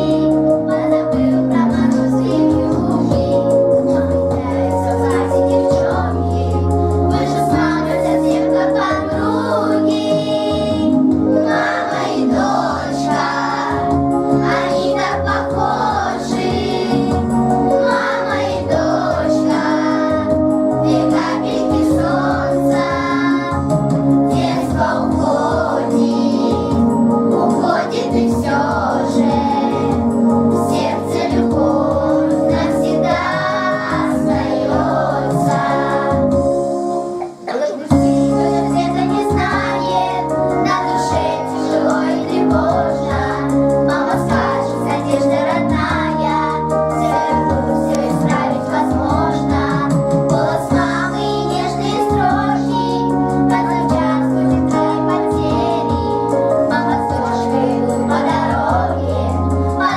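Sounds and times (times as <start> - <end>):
children singing in chorus: 0.0 - 23.6, 24.3 - 30.0, 30.6 - 36.3, 37.4 - 59.9
instrumental accompaniment: 0.0 - 59.9.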